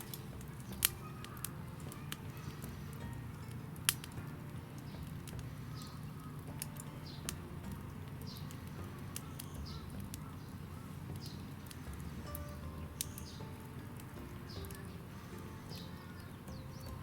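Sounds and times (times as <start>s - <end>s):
bird chirping: 0.0s - 17.0s
steady low hum: 0.0s - 17.0s
wood fire crackling: 0.0s - 17.0s.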